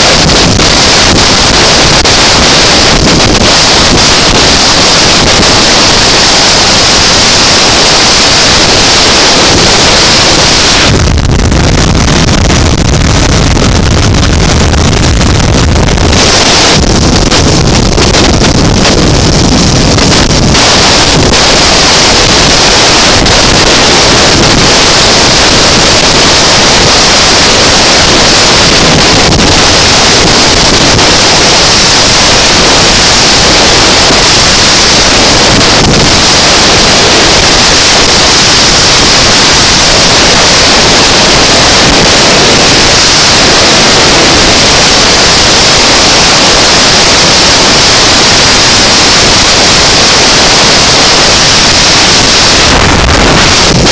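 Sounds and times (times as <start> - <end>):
wind rush on microphone: 0.0 - 53.9.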